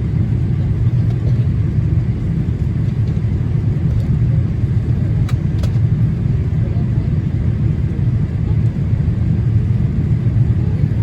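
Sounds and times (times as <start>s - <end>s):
airplane cabin engine and airflow noise: 0.0s - 11.0s.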